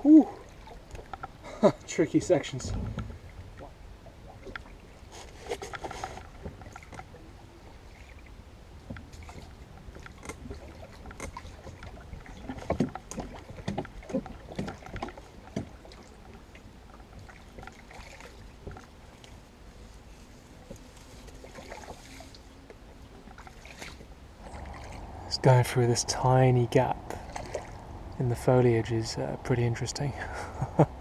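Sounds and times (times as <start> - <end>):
oar splashing water: 0.0 - 28.5.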